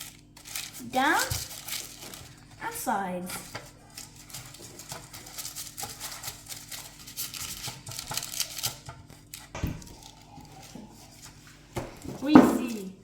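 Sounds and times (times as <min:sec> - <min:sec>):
baking paper rustling: 0:00.0 - 0:13.0.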